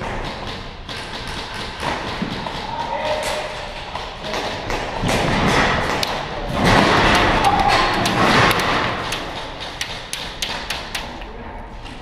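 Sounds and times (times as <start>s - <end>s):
airsoft guns popping: 0.0s - 3.4s, 4.0s - 11.1s.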